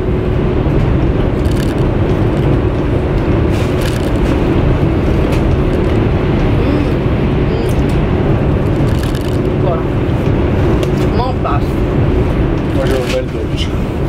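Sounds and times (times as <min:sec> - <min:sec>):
train cabin rumble: 0:00.0 - 0:14.0.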